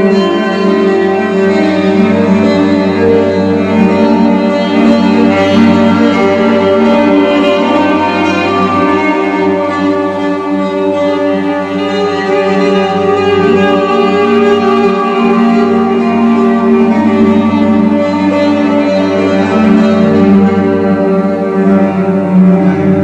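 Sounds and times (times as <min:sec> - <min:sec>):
sustained layered tones: 0:00.0 - 0:23.0.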